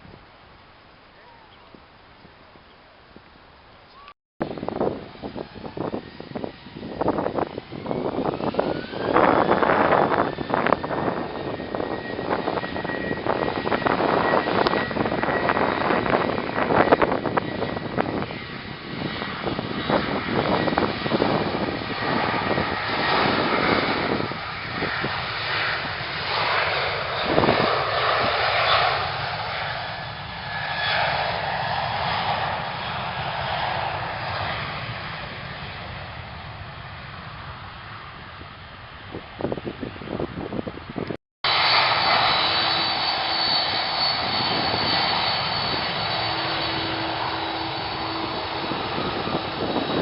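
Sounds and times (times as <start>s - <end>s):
airplane engines whining: 0.0s - 50.0s.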